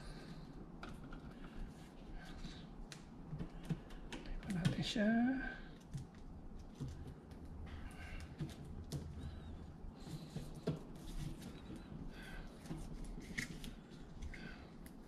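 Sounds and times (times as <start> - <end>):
cable handling clicks and rustles: 0.4 - 15.0.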